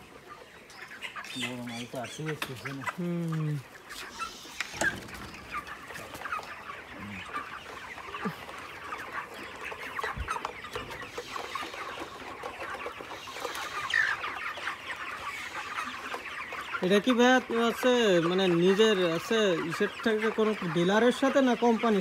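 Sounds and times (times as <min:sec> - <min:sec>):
chickens clucking and chirping: 0:00.0 - 0:22.0.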